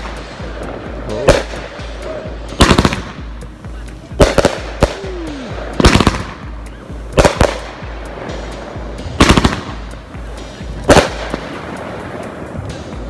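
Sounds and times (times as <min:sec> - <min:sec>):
firework shells banging: 0:00.0 - 0:13.0.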